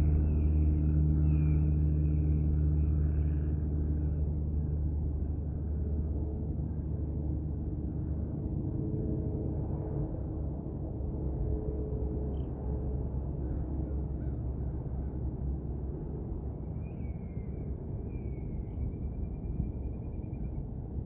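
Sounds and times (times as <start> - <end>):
airplane drone: 0.0 - 21.0.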